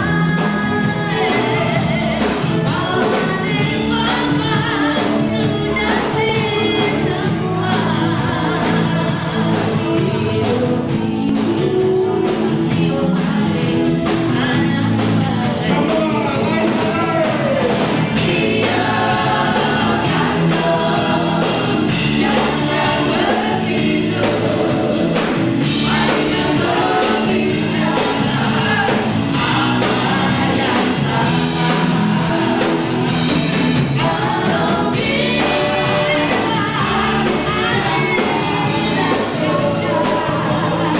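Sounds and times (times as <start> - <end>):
live band playing: 0.0 - 40.9
several voices singing: 0.0 - 40.9.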